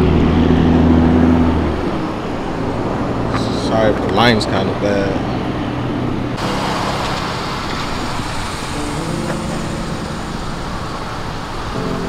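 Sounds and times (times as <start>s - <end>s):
car engine idling: 0.0s - 12.0s
outdoor traffic noise: 0.0s - 12.0s.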